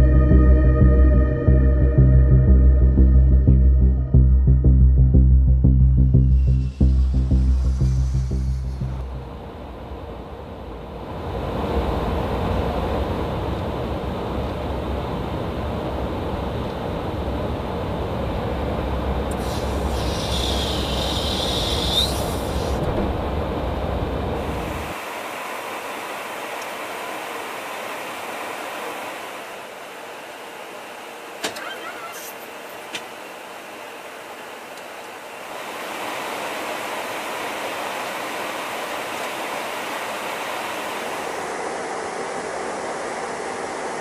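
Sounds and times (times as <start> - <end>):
high whine: 0.0 - 34.0, 35.0 - 44.0
aircraft in-flight rumble: 0.0 - 44.0.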